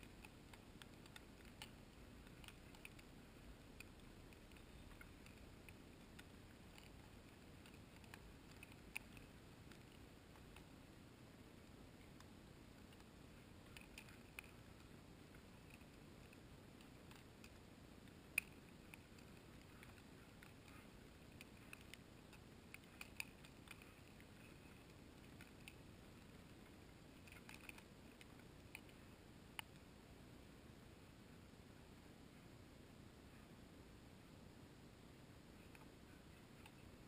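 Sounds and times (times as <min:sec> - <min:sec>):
small clicks: 0:00.0 - 0:29.9, 0:35.6 - 0:37.0
faint steady hiss: 0:00.0 - 0:37.0.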